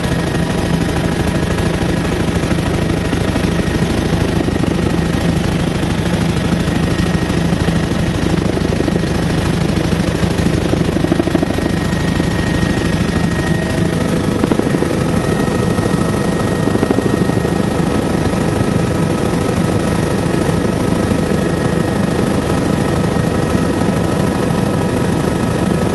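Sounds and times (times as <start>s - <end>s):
helicopter engine and rotor noise: 0.0s - 25.9s
helicopter rotor chop: 0.0s - 25.9s.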